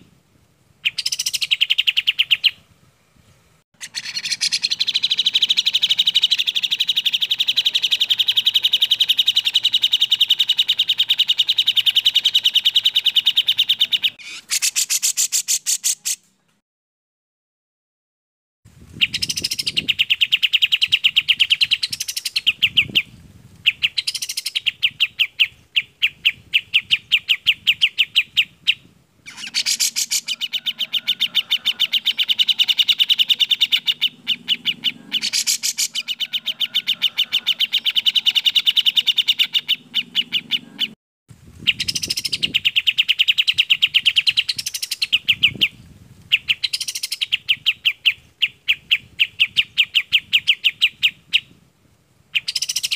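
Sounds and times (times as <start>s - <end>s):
bulbuls singing rapid repeated notes: 0.8s - 2.6s, 3.8s - 16.2s, 19.0s - 41.0s, 41.6s - 51.5s, 52.3s - 52.9s.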